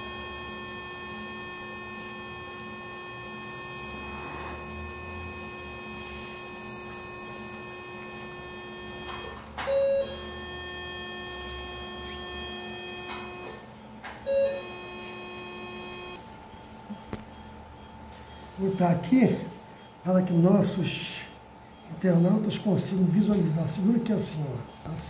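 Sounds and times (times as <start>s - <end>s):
electronic equipment hum: 0.0s - 25.0s.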